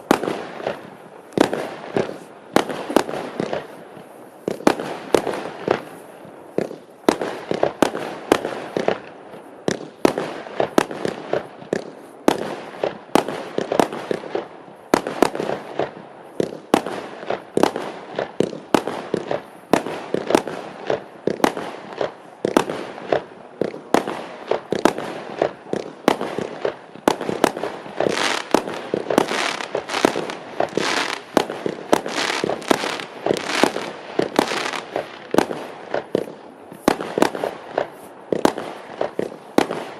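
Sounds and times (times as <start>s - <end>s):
fireworks crackle: 0.0s - 39.9s
fireworks launch thumps and bursts: 0.1s - 39.9s.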